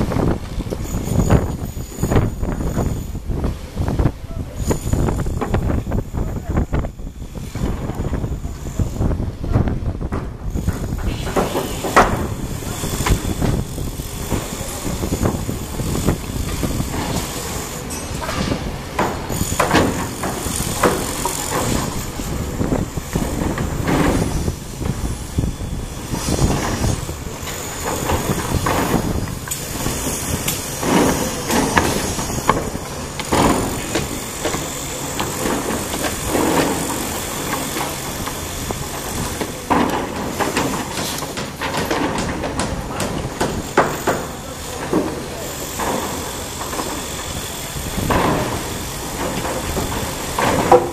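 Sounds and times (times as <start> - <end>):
excavator diesel engine running: 4.9 - 50.9
machine knocks and clatter: 9.5 - 50.9.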